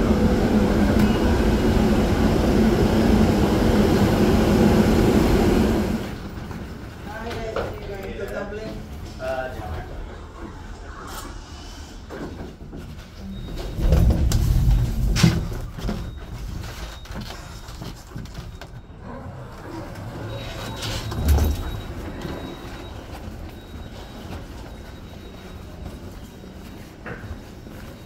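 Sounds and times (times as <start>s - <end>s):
elevator mechanical rumble: 0.0s - 28.0s.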